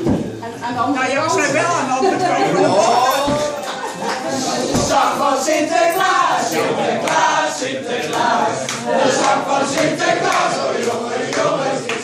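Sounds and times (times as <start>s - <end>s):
group of people singing: 1.5s - 12.0s.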